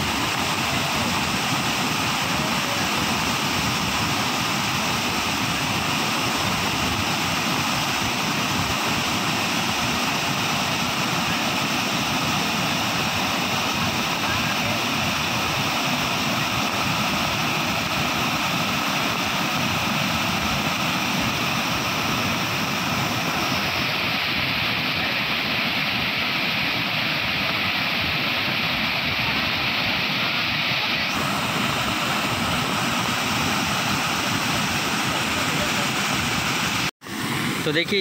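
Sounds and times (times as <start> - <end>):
waterfall roaring: 0.0 - 38.0.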